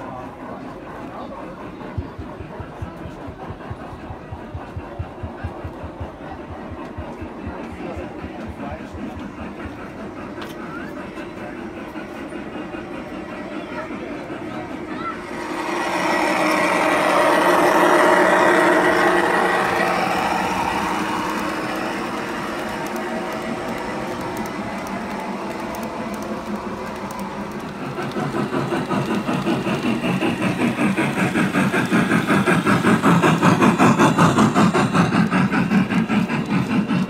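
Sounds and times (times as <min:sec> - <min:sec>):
model train clattering: 0:00.0 - 0:37.0
model train rumbling: 0:00.0 - 0:37.0.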